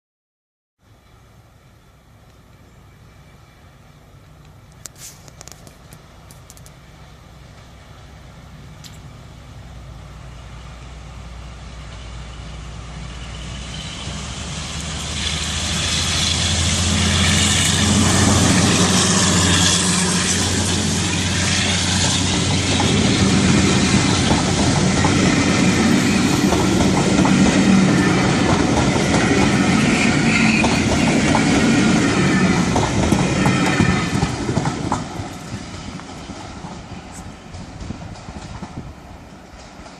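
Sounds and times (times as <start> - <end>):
train running on rails: 0.9 - 39.9.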